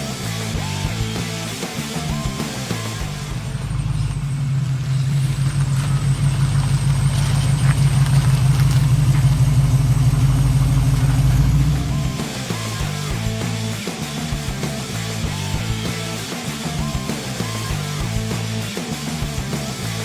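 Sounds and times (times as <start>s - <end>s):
car engine droning: 0.0s - 16.2s.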